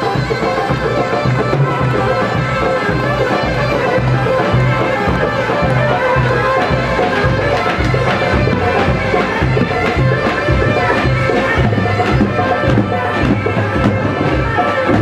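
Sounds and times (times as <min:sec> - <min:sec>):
reedy wind melody: 0:00.0 - 0:15.0
regular drum beat: 0:00.0 - 0:15.0.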